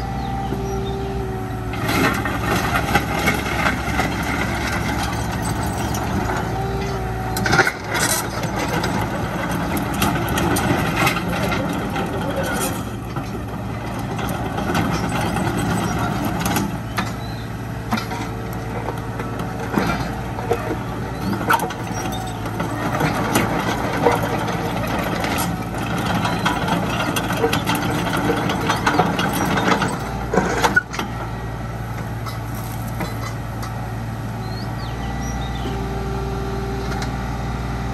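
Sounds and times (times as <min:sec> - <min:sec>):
excavator diesel engine running: 0:00.0 - 0:37.9
machine clanks and knocks: 0:01.7 - 0:31.3, 0:32.0 - 0:33.8.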